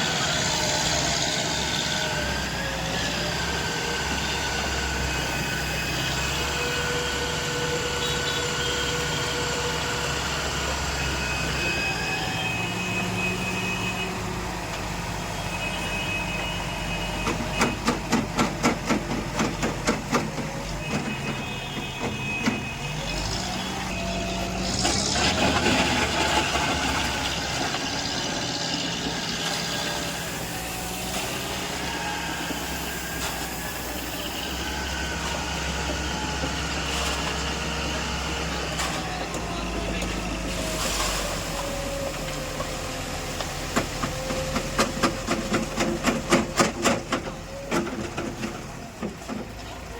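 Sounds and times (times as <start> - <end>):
heavy vehicle engine running: 0.0 - 49.9.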